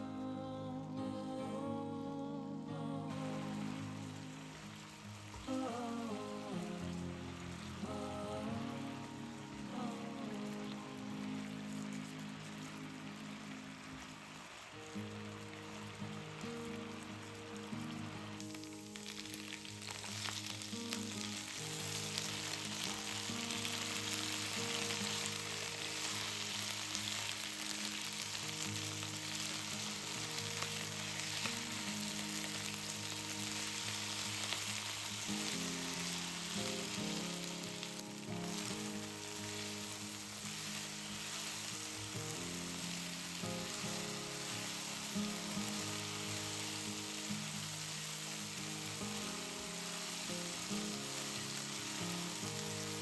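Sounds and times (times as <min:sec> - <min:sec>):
soft background music: 0:00.0 - 0:53.0
food sizzling in hot oil: 0:03.1 - 0:53.0.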